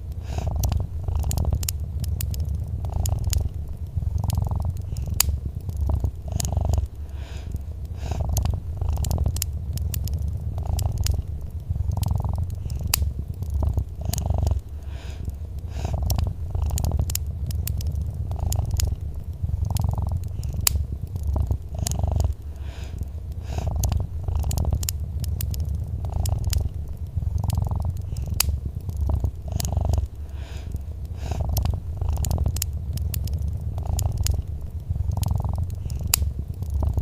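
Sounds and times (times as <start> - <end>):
cat purring: 0.0 - 37.0
wood fire crackling: 0.0 - 37.0.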